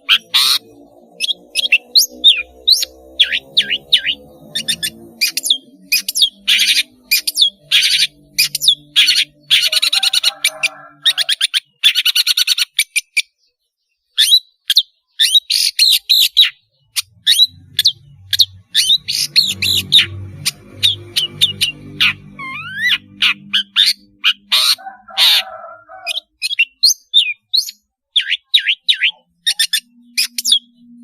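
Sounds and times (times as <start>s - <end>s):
shrike singing: 0.0s - 12.4s, 15.2s - 31.0s.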